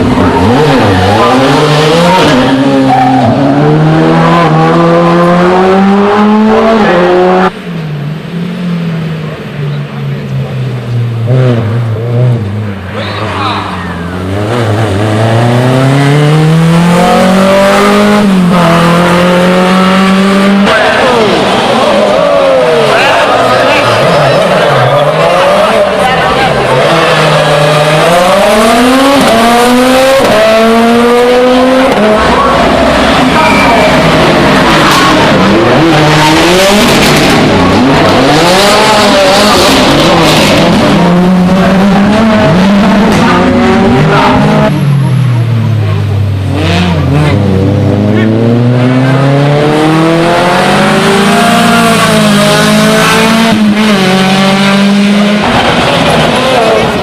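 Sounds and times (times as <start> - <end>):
rally car engine accelerating: 0.0 - 57.0.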